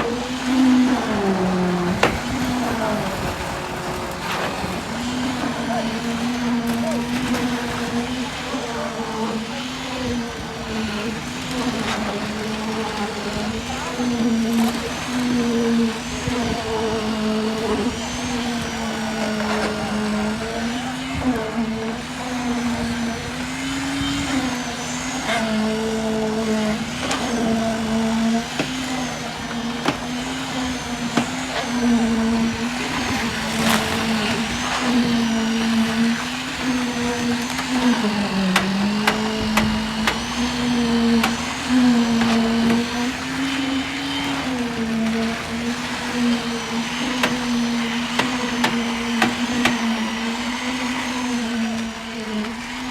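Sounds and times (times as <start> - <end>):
machinery motor hum: 0.0 - 52.9.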